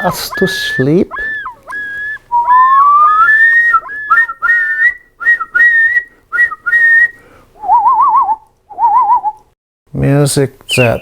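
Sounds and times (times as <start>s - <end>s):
clear whistled notes: 0.0s - 9.4s, 10.7s - 11.0s.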